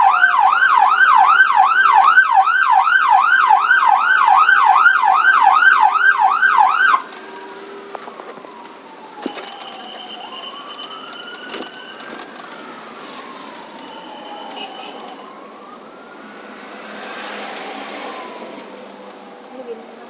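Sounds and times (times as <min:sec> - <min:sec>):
electronic siren wailing: 0:00.0 - 0:16.8.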